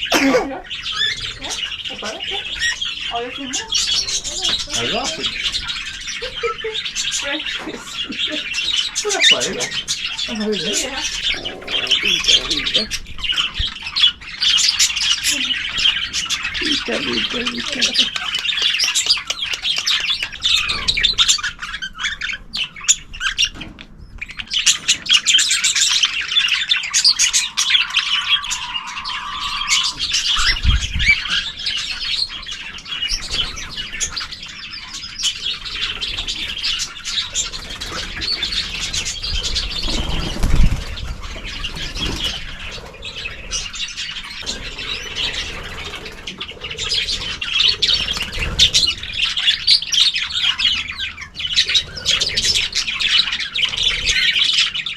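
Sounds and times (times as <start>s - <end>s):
cage birds chirping and chattering: 0.0s - 54.9s.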